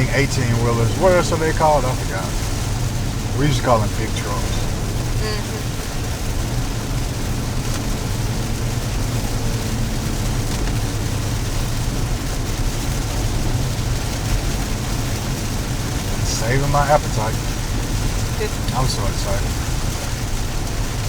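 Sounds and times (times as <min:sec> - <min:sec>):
car engine and tyres droning: 0:00.0 - 0:21.0
rain hissing: 0:00.0 - 0:21.0.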